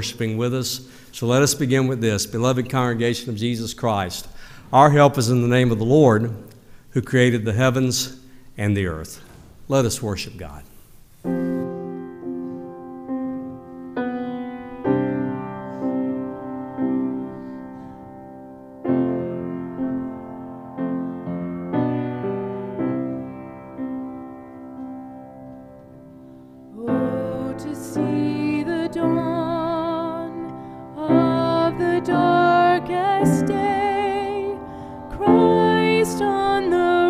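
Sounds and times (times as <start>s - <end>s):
grand piano chords: 0.0s - 6.5s, 11.2s - 37.0s.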